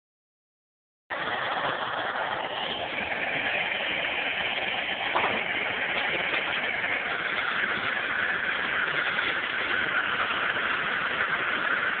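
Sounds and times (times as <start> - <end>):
gas torch hissing: 1.1 - 12.0.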